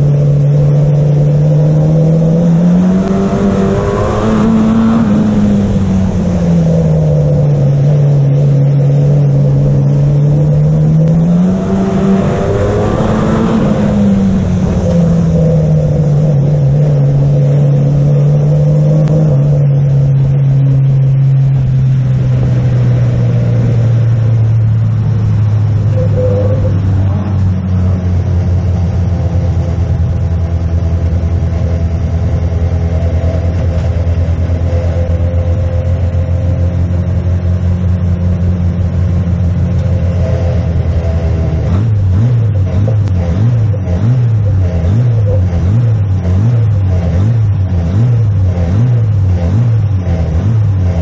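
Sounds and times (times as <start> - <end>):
racing car engine: 0.0 - 51.0.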